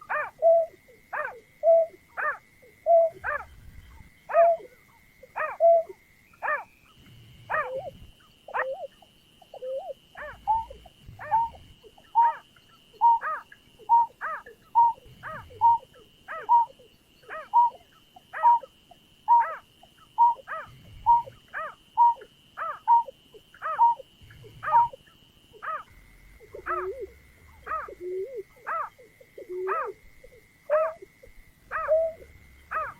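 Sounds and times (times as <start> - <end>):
bird hooting calls: 0.0 - 32.9.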